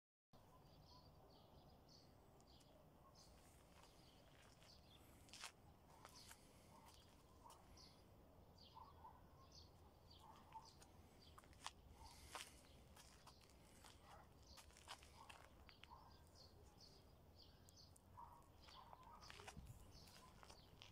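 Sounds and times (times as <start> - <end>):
distant bird chirps: 0.4 - 20.9.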